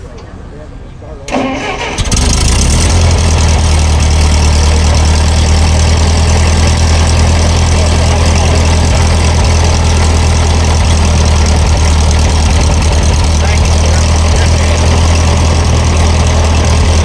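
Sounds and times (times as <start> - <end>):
tractor engine idling: 1.3 - 17.0.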